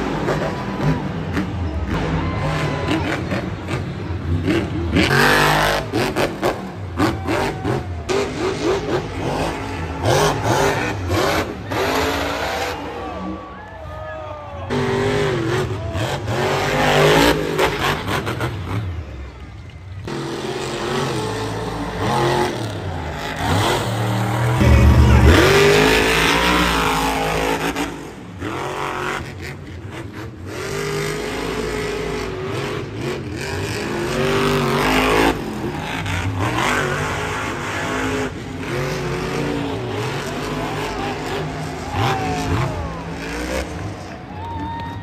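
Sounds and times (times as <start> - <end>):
truck engines revving: 0.0 - 45.0.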